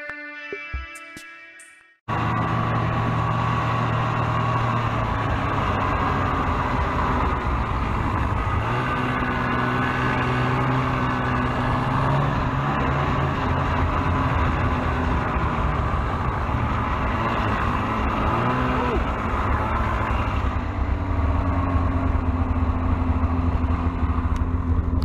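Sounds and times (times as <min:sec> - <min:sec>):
snowmobile engine running: 0:02.1 - 0:25.0.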